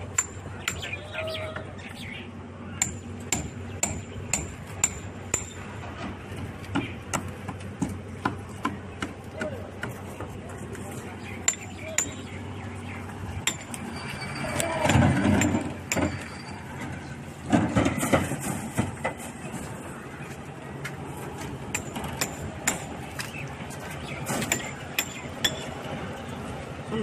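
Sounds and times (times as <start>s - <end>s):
heavy construction noise: 0.0s - 27.0s
steady background noise: 0.0s - 27.0s.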